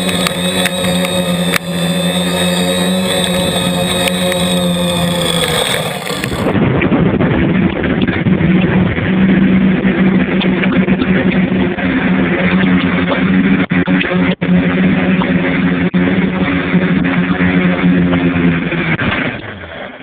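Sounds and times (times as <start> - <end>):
drone propellers buzzing: 0.0 - 6.6, 9.8 - 19.6.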